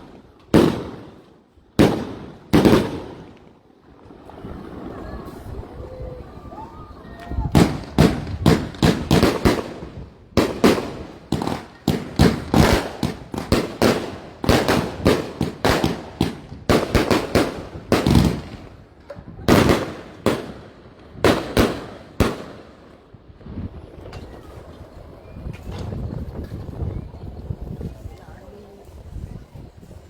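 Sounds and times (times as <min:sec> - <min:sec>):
fireworks bangs: 0:00.0 - 0:28.2.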